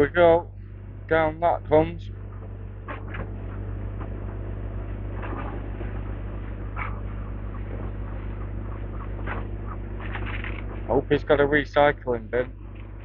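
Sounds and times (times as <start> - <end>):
diesel excavator engine droning: 0.0 - 13.0.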